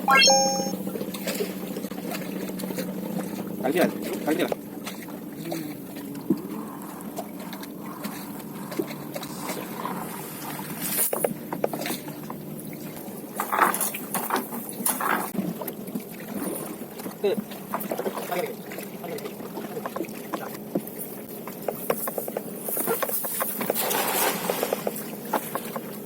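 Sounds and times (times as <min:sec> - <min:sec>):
small boat engine running: 0:00.7 - 0:26.0.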